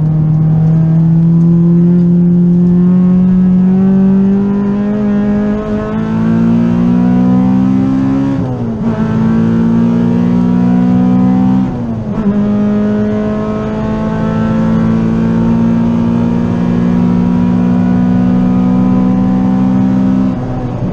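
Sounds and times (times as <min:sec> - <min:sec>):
car engine revving at full throttle: 0:00.0 - 0:20.9.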